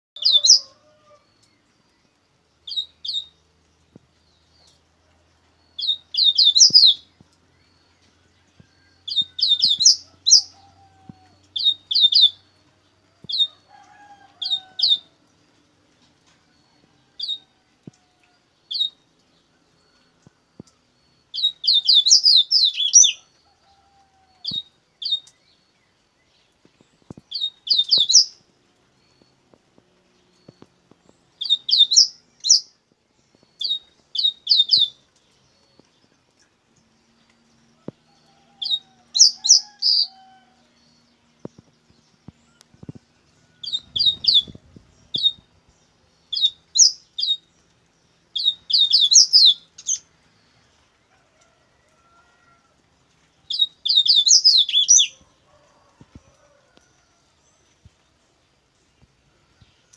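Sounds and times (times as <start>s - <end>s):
small bird singing chirping notes: 0.2s - 13.7s, 14.4s - 50.7s, 53.4s - 55.3s.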